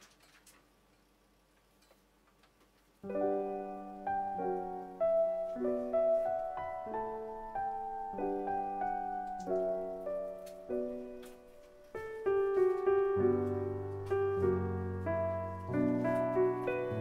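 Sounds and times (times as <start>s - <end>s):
slow gentle piano music: 3.0s - 17.0s.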